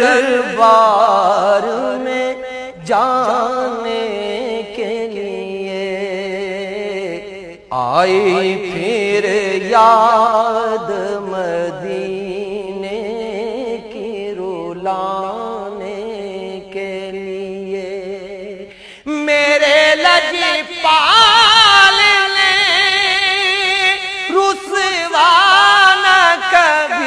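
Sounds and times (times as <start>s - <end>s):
man singing melismatic phrases: 0.0s - 27.0s.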